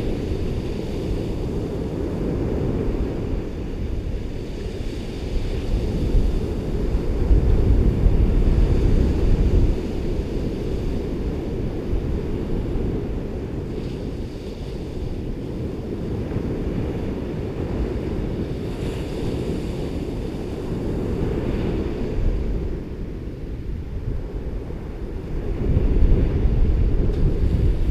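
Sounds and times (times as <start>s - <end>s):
ocean surf washing onto beach: 0.0s - 27.9s
wind rumbling on microphone: 0.0s - 27.9s.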